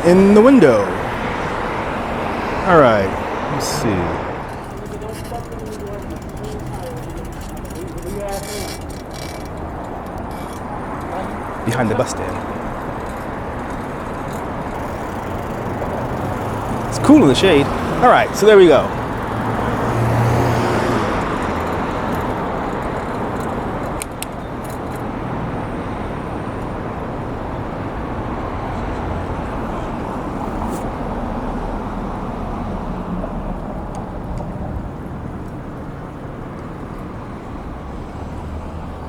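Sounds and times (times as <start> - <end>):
cars passing: 0.0 - 39.0
vehicle engine hum: 0.0 - 39.0.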